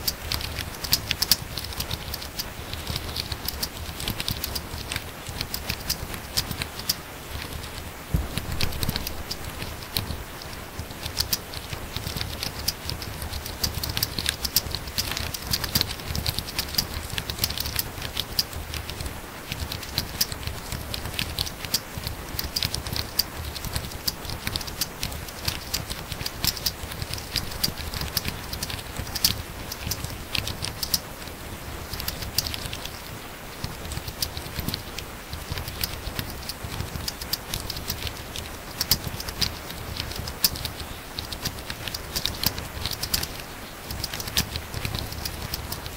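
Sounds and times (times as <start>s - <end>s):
fast typing on laptop keyboard: 0.0s - 45.9s.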